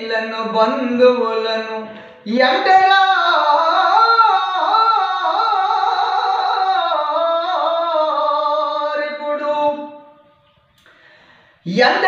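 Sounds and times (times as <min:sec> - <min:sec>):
man singing unaccompanied: 0:00.0 - 0:10.2, 0:11.6 - 0:12.0.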